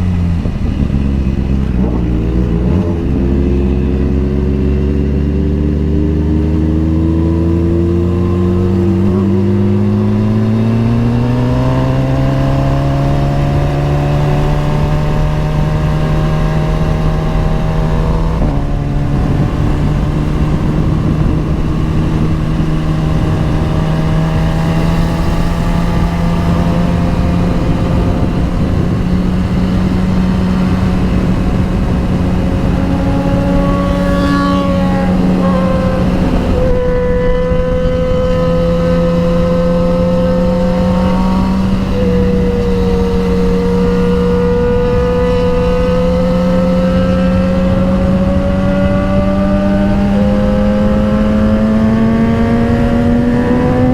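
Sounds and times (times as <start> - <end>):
wind rush: 0.0 - 53.9
motorcycle engine pulling: 7.3 - 53.9.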